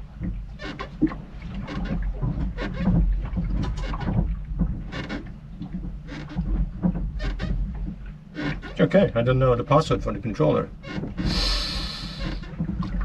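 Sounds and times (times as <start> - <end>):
wind rumble on microphone: 0.0 - 8.1, 8.7 - 13.0
sailboat creaking and knocking: 0.0 - 13.0.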